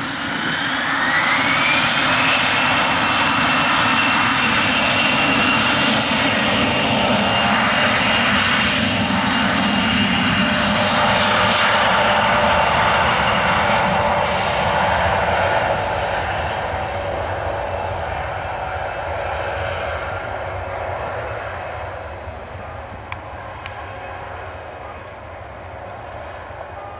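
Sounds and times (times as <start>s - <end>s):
jet aircraft roar with whine: 0.0s - 26.9s.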